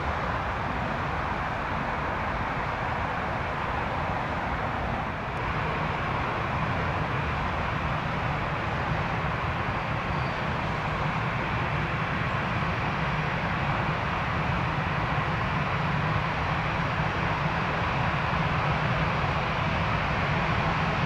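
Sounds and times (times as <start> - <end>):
jet airliner engines rushing: 0.0 - 21.0.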